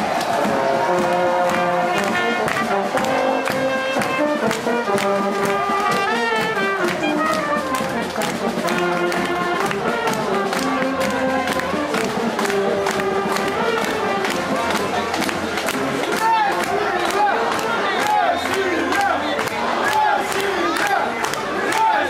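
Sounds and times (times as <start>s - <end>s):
bass drum beat: 0.0s - 19.5s
brass band playing: 0.0s - 22.0s.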